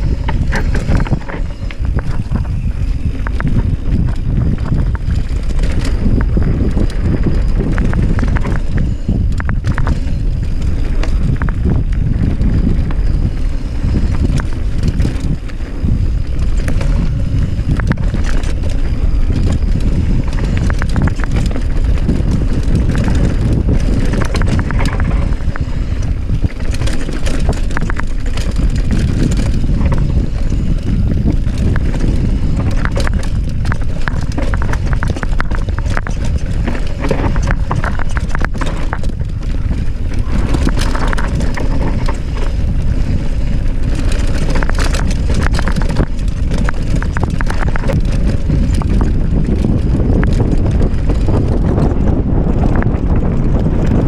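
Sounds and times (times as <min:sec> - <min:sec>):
bike rattling over rocks: 0:00.0 - 0:54.0
wind buffeting microphone: 0:00.0 - 0:54.0.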